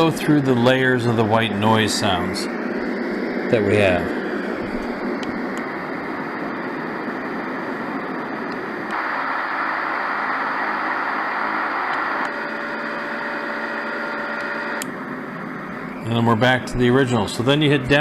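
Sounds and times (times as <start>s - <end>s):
white noise from speaker: 0.0s - 18.0s.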